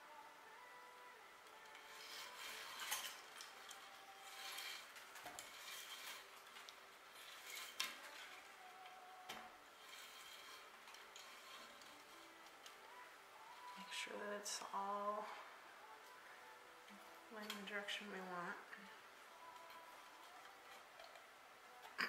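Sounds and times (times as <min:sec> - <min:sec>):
cane rustling and scraping: 0:01.4 - 0:22.0.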